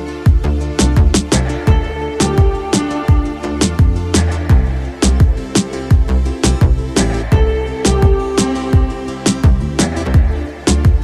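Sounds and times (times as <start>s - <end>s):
sustained keyboard notes: 0.0s - 11.0s
hi-hat strikes: 0.3s - 11.0s
kick drum: 0.3s - 11.0s.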